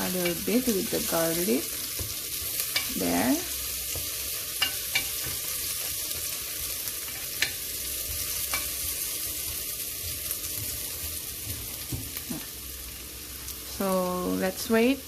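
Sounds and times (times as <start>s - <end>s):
garlic sizzling in oil: 0.0s - 15.0s.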